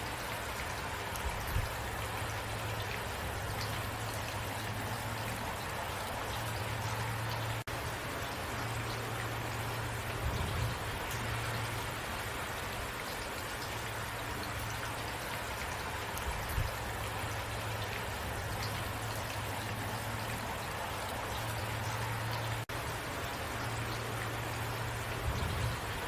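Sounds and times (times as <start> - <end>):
low constant rumble: 0.0 - 26.0
steady rain hiss: 0.0 - 26.0.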